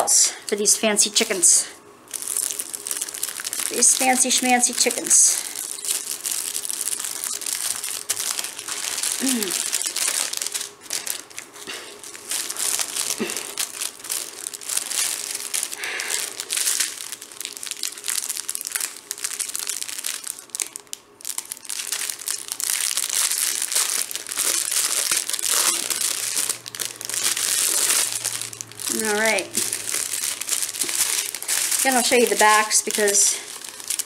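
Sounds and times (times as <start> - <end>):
plastic bags crinkling: 2.1 - 34.0.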